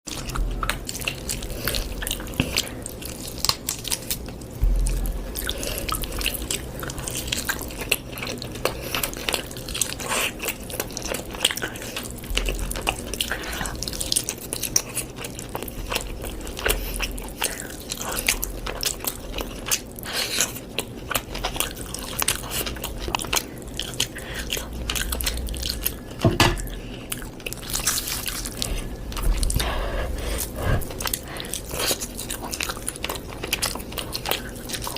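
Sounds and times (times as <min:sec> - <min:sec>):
person chewing food: 0:00.1 - 0:34.9.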